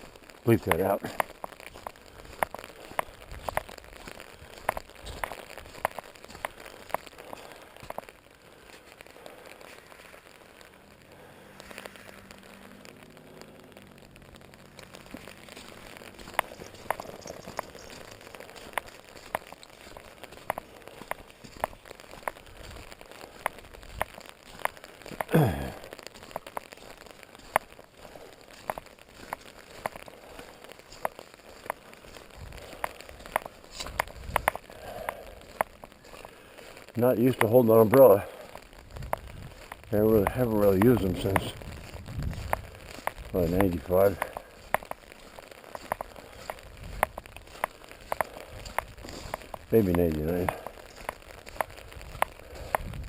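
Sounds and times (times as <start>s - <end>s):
rain tapping on an umbrella: 0.0s - 53.0s
steady rain hiss: 0.0s - 53.0s.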